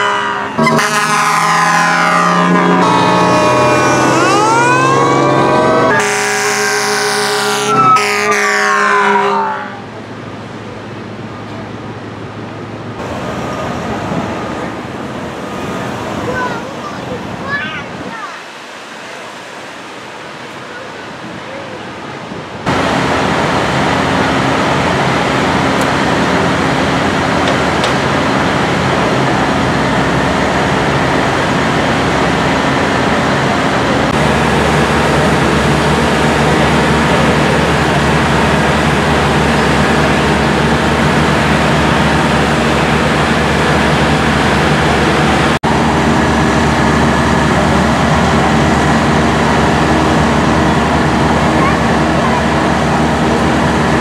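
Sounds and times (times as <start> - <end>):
fire engine pump drone: 0.0 - 17.5, 22.3 - 54.0.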